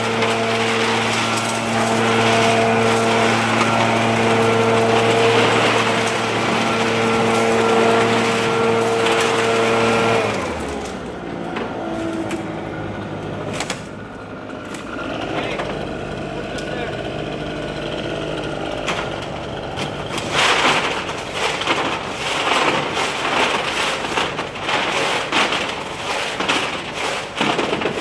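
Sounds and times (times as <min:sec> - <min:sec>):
leaf blower engine running: 0:00.0 - 0:28.0.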